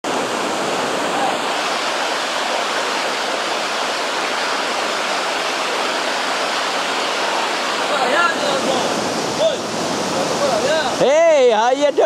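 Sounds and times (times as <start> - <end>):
rushing whitewater rapids: 0.0 - 12.0.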